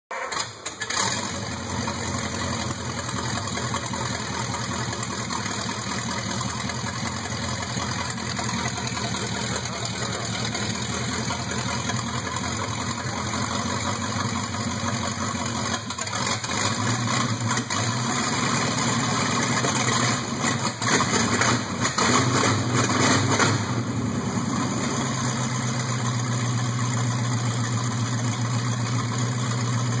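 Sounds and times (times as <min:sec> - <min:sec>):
engine idling and revving: 0:00.1 - 0:30.0.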